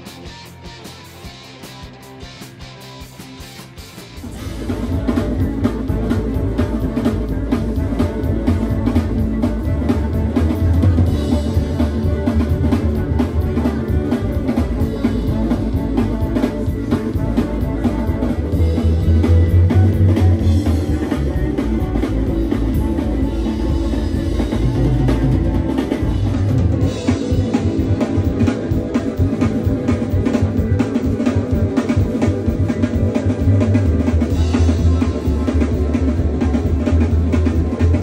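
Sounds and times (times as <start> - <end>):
bass drum beat: 0.0 - 38.0
live rock band playing: 0.0 - 38.0.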